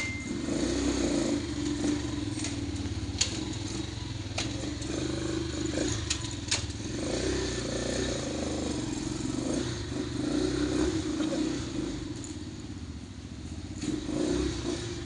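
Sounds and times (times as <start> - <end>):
atv engine idling: 0.0 - 14.2.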